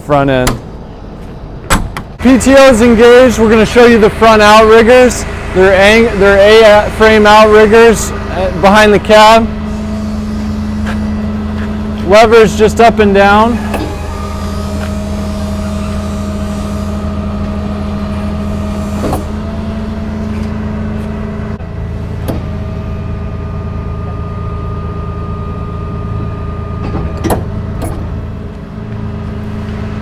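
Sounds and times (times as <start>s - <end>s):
diesel truck engine running: 0.0s - 30.0s
hydraulic pump whine: 0.0s - 30.0s.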